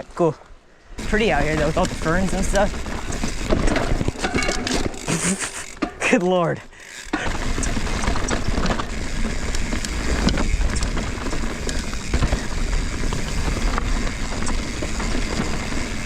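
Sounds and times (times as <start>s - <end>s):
bike tyre noise: 0.0s - 16.0s
bike rattling over rocks: 1.0s - 16.0s.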